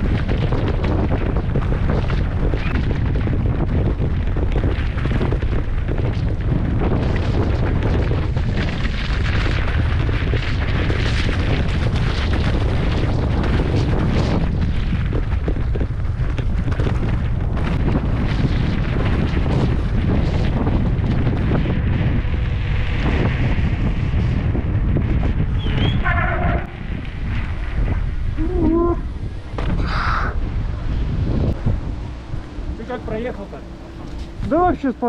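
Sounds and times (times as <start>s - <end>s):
bike jolting and rattling: 0.0s - 28.4s
wind buffeting microphone: 0.0s - 35.0s.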